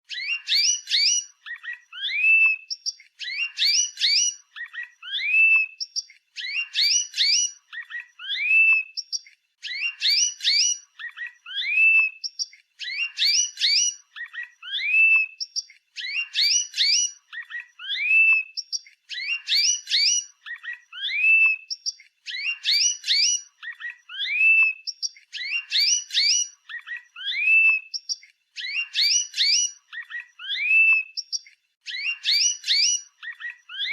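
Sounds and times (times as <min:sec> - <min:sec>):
canary singing: 0:00.1 - 0:33.9.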